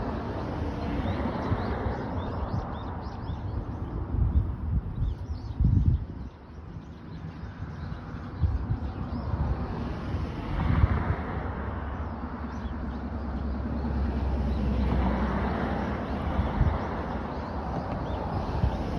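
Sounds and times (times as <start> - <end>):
wind gusting on microphone: 0.0 - 18.9.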